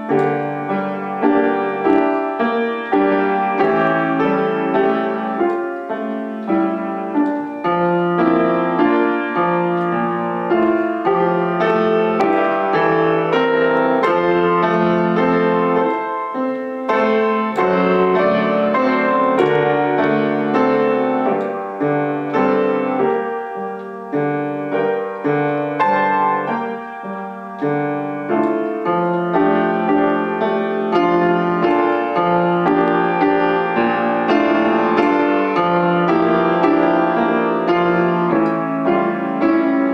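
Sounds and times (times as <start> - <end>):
solo piano piece: 0.0 - 39.9.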